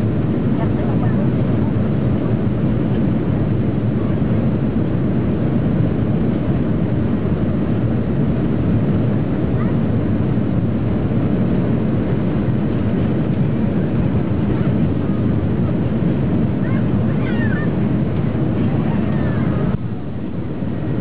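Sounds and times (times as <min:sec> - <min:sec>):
jet engines and airflow rumble: 0:00.0 - 0:21.0.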